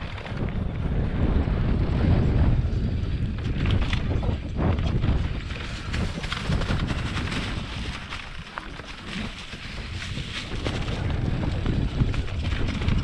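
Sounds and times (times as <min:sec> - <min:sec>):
bike rattling clicks: 0:00.0 - 0:00.7, 0:03.1 - 0:13.0
bike tyres over leaves and stones: 0:00.0 - 0:13.0
wind rumbling on microphone: 0:00.0 - 0:13.0.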